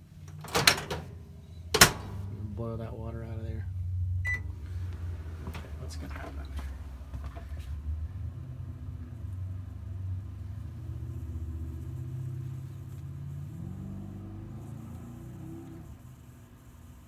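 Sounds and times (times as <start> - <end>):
microwave oven humming: 0.0 - 5.7, 8.1 - 17.0.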